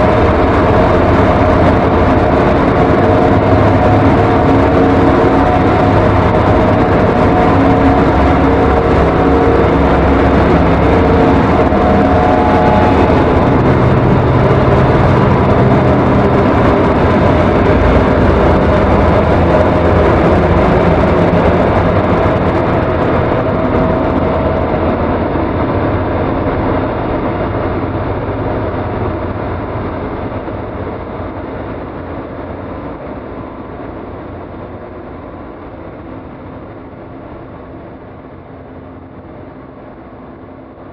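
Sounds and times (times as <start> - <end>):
held low tones: 0.0 - 34.0
grinding noise drone: 0.0 - 40.9.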